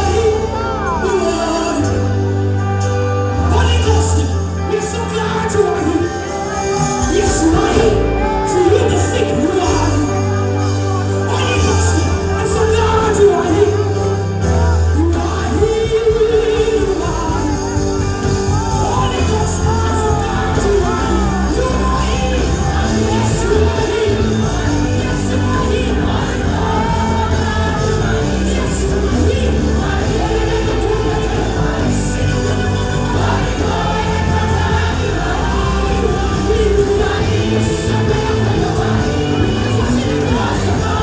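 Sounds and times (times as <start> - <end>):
held bass notes: 0.0 - 41.0
worship music with singing: 0.0 - 41.0.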